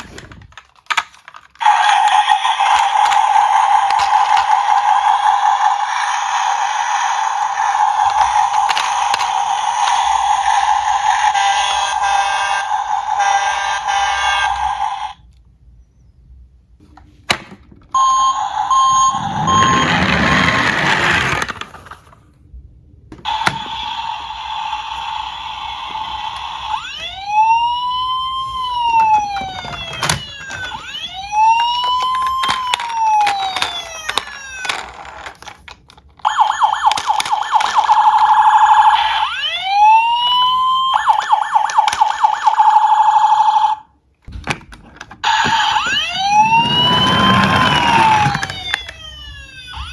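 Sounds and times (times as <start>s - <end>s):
emergency vehicle siren: 1.6s - 15.2s, 18.0s - 21.2s, 23.2s - 35.6s, 36.2s - 43.9s, 45.2s - 49.9s.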